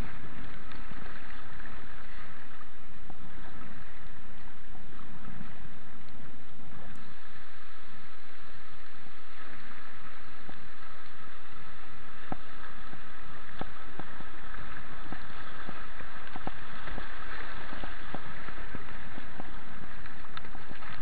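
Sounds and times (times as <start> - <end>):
fast-moving river water rushing: 0.0 - 21.0.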